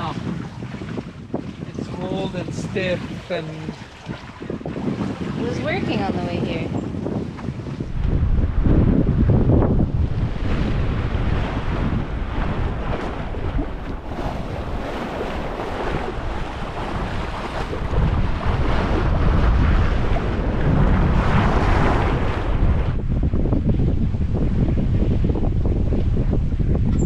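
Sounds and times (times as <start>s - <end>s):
water rushing along boat hull: 0.0s - 27.0s
wind buffeting microphone: 0.0s - 27.0s.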